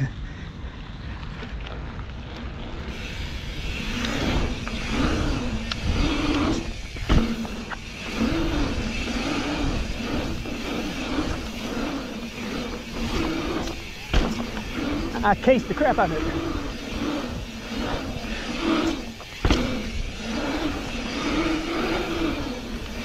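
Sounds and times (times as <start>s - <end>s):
bike tyres humming on asphalt: 0.0s - 23.0s
wind rumbling on microphone: 0.0s - 23.0s.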